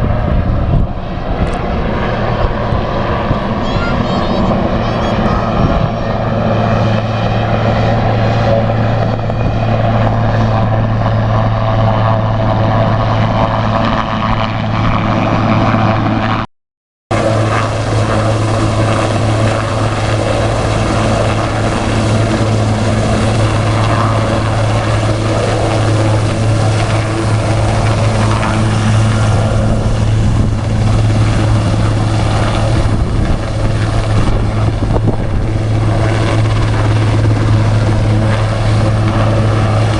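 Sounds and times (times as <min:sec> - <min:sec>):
helicopter rotor and engine drone: 0:00.0 - 0:16.5, 0:17.1 - 0:39.9.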